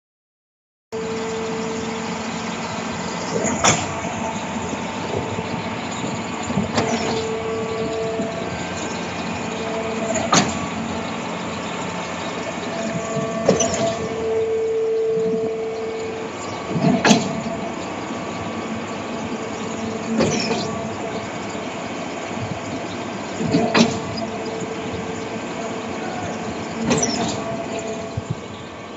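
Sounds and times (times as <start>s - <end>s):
concrete pump running: 1.0s - 28.9s.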